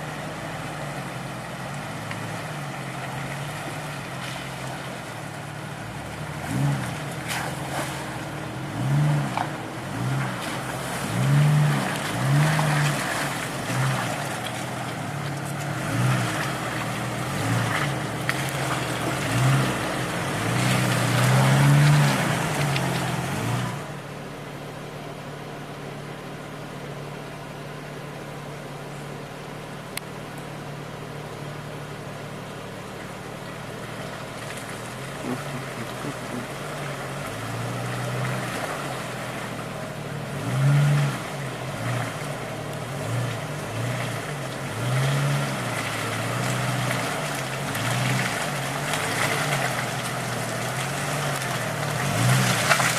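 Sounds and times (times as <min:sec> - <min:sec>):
car engine revving: 0:00.0 - 0:24.6, 0:26.7 - 0:52.9.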